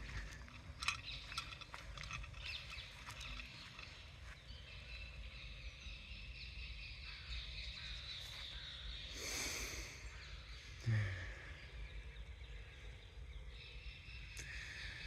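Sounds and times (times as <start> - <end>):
faint birds chirping: 0.0 - 15.0
low outdoor rumble: 0.0 - 15.0.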